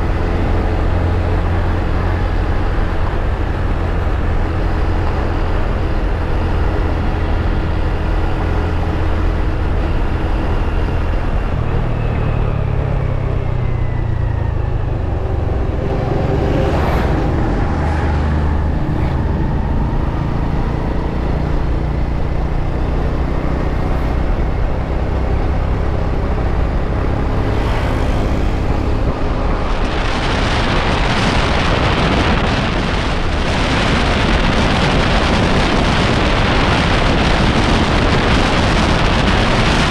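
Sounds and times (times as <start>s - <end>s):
road and traffic noise: 0.0s - 39.9s
vehicles passing: 0.0s - 39.9s
wind on microphone: 0.0s - 39.9s.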